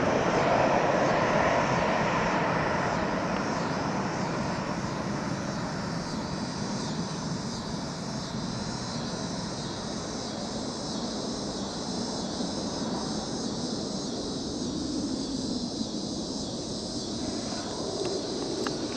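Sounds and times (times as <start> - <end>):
high insect-like drone: 0.0 - 18.9
jet engines rumbling: 0.0 - 18.9.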